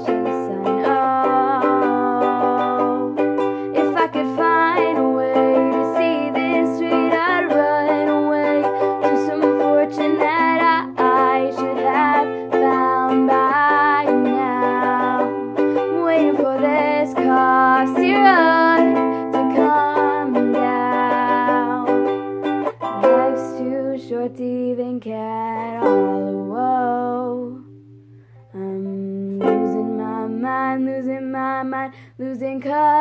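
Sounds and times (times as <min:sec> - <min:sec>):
ukulele strumming: 0:00.0 - 0:33.0.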